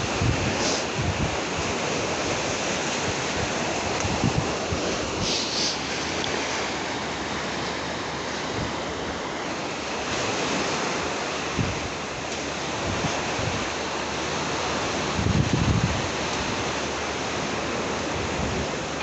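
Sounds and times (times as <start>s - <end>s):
open water: 0.0s - 19.0s
strong wind: 0.0s - 19.0s
wind buffeting microphone: 0.0s - 19.0s.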